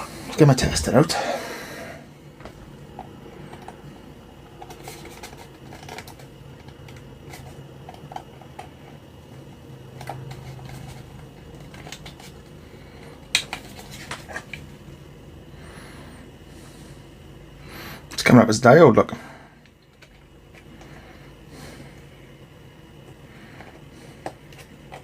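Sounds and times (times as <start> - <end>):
fan humming: 0.0 - 25.0.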